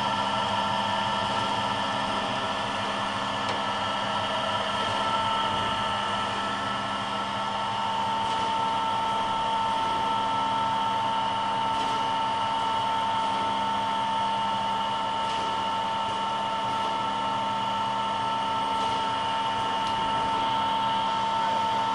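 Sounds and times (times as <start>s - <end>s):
drilling machine motor hum and whine: 0.0s - 21.9s.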